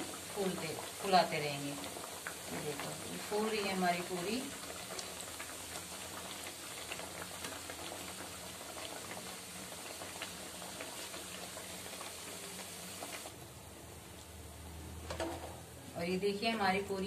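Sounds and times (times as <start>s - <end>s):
hot oil bubbling and sizzling: 0.0s - 17.0s.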